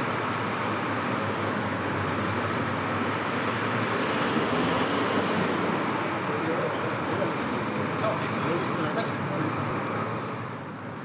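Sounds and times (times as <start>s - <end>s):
vehicle traffic: 0.0s - 11.0s.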